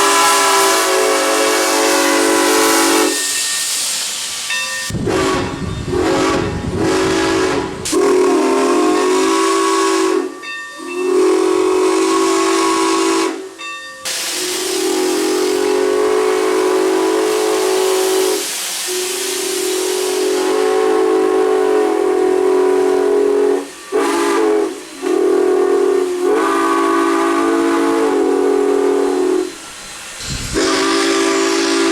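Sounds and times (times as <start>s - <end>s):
steam hissing: 0.0s - 31.9s
steam locomotive whistle: 0.0s - 31.9s.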